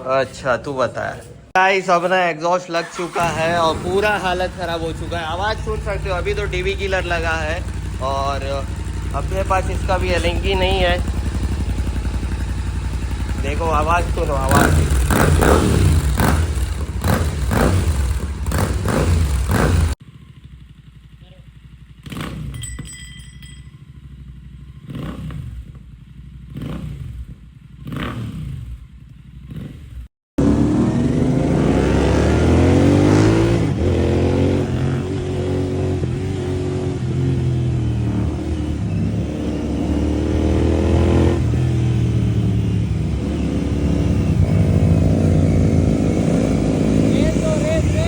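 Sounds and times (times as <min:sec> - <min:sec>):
motorcycle engine running: 0:02.9 - 0:48.0
motorcycle engine throttle blips: 0:02.9 - 0:48.0.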